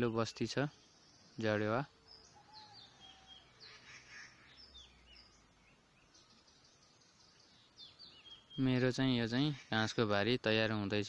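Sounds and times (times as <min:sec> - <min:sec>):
small songbirds chirping: 0:00.0 - 0:11.0.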